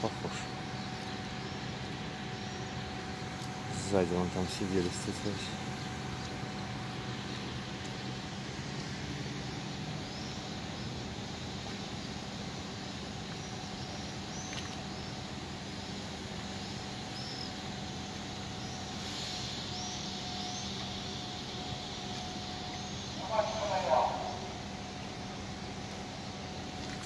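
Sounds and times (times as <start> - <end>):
ship machinery hum: 0.0 - 27.0
small birds chirping: 0.0 - 27.0.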